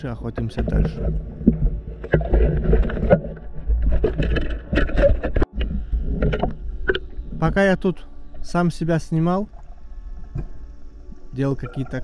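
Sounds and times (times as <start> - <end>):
underwater water rumble: 0.2 - 12.0.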